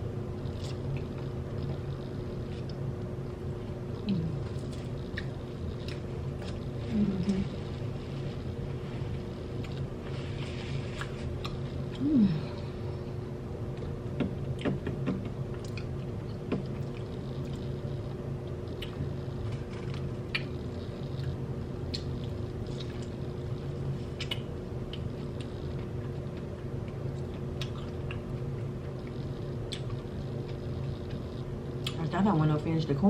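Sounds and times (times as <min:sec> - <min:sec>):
low hum: 0:00.0 - 0:33.0
person chewing food: 0:00.4 - 0:03.4, 0:04.0 - 0:13.0, 0:13.7 - 0:32.0.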